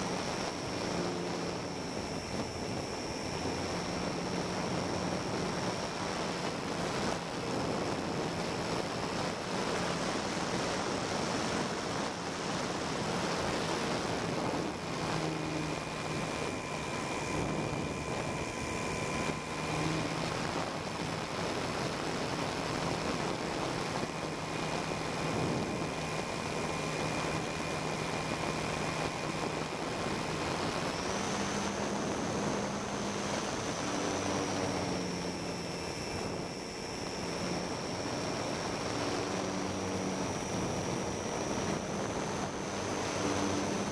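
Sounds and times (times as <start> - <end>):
model aircraft motor whine: 0.0 - 43.9.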